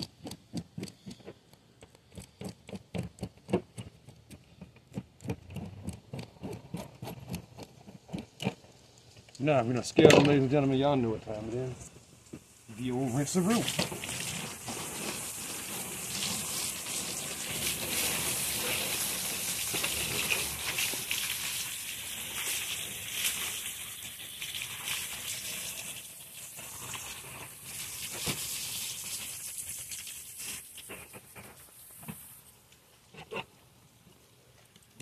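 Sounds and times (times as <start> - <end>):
garden hose water spraying: 0.0 - 33.1.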